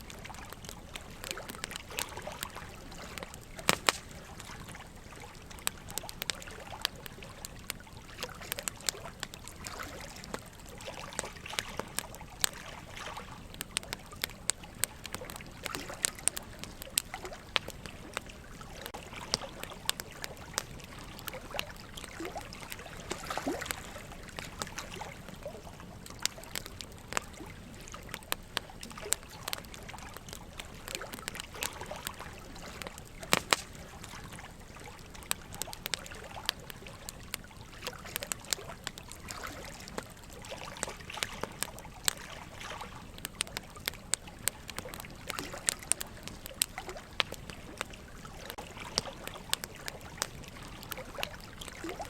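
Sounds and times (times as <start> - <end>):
running water trickling: 0.0 - 52.0
wood fire crackling and popping: 0.0 - 52.0.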